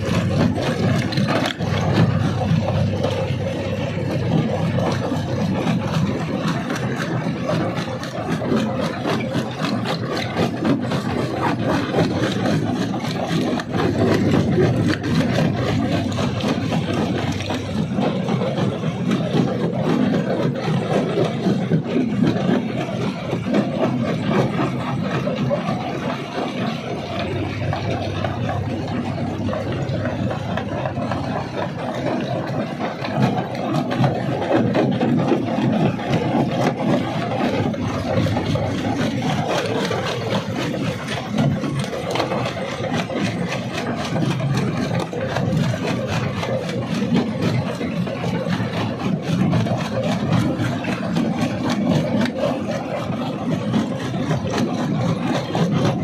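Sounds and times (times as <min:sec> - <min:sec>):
rock crusher rattling and grinding: 0:00.0 - 0:56.0.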